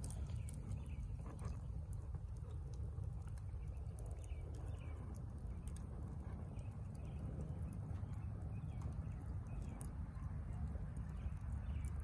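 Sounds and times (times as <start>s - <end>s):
fire crackling and popping: 0.0s - 12.0s
low fire rumble: 0.0s - 12.0s.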